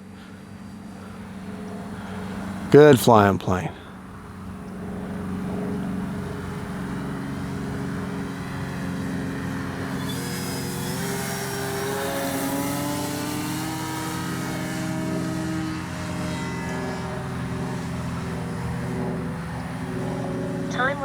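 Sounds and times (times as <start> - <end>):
model plane motor whine: 0.0 - 2.7, 3.9 - 21.0.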